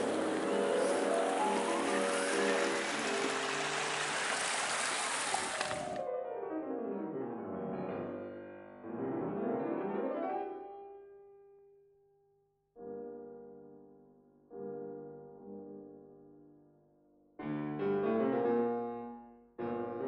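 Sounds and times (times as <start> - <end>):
piano music: 0.0 - 11.5, 12.8 - 20.0.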